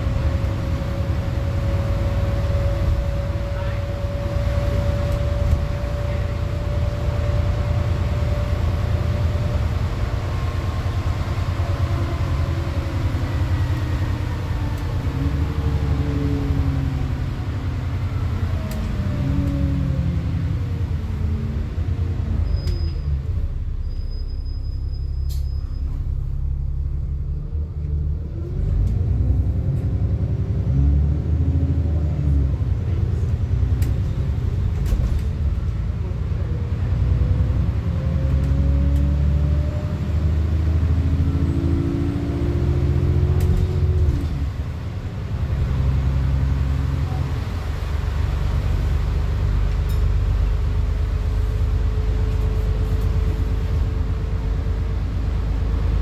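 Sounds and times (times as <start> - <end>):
engine whine rising and falling: 0.0 - 24.0, 25.8 - 56.0
bus diesel engine rumbling: 0.0 - 56.0.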